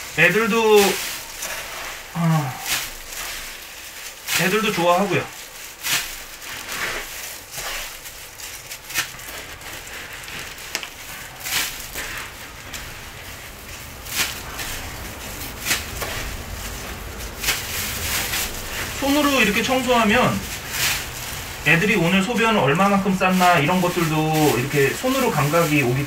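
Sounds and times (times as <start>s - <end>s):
cat litter rustling and scraping: 0.0s - 26.0s.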